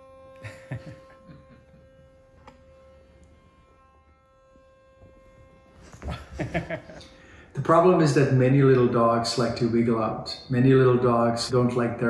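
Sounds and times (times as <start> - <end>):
electric toothbrush buzzing: 0.0 - 9.8.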